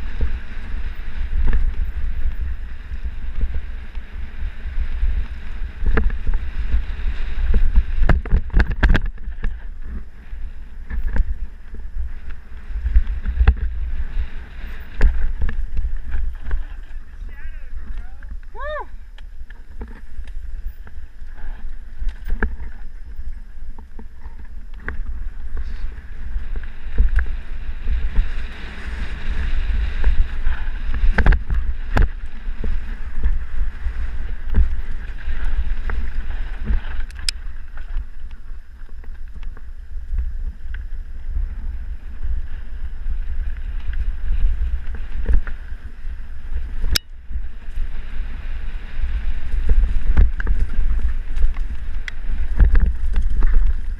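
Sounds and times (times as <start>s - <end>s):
bike rattling and knocking: 0.0s - 17.2s, 19.3s - 48.4s, 49.0s - 53.9s
wind rumbling on microphone: 0.0s - 53.9s.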